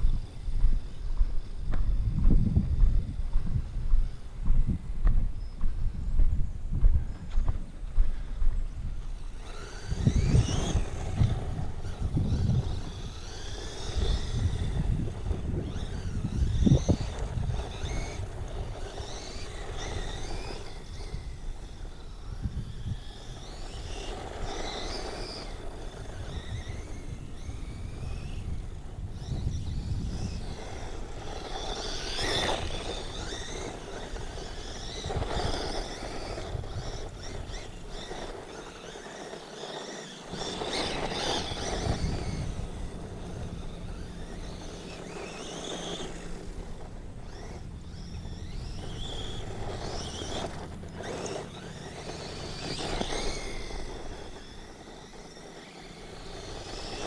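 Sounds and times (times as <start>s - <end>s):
electric motor whining: 7.0s - 57.0s.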